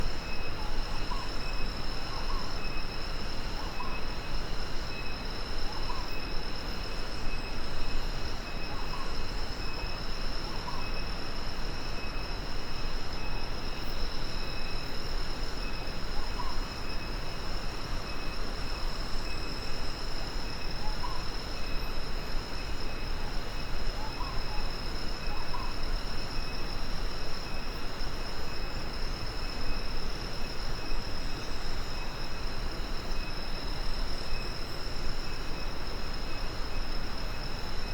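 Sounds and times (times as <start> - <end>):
insects droning: 0.0 - 37.9
low rumble and hiss: 0.0 - 37.9.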